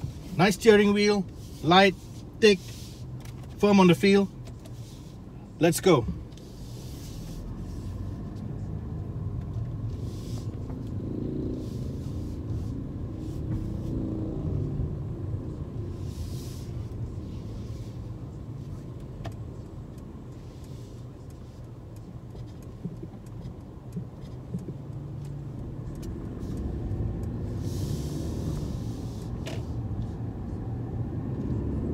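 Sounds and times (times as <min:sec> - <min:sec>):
car engine and tyres rumbling: 0:00.0 - 0:31.9.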